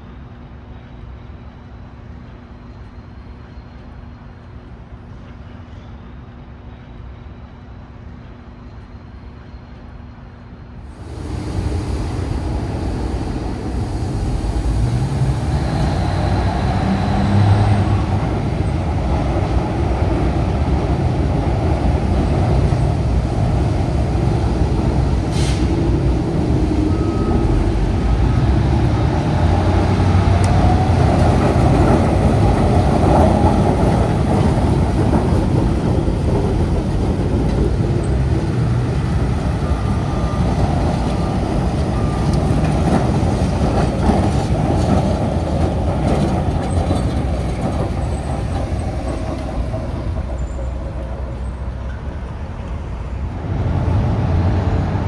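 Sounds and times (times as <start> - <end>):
diesel locomotive engine rumble: 0.0 - 55.0.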